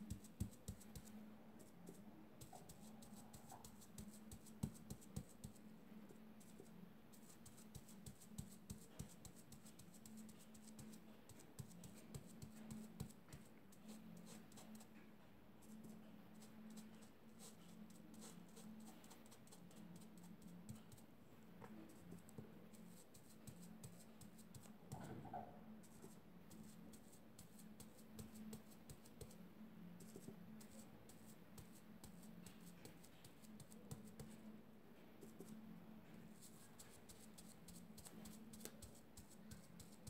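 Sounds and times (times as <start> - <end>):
paint dabbing taps and scratches: 0.0 - 29.4, 30.0 - 34.5, 35.2 - 40.0.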